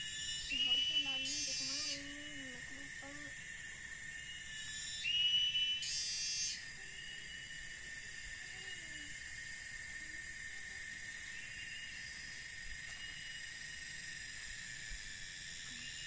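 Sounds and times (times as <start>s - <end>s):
forest insect chorus drone: 0.0s - 16.0s.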